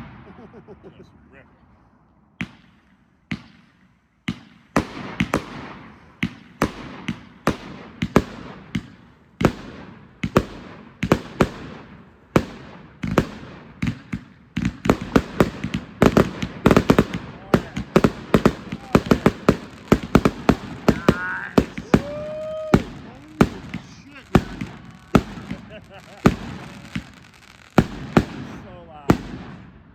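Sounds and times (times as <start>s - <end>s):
fireworks bangs with rumbling echo: 0.0s - 1.1s, 2.4s - 29.9s.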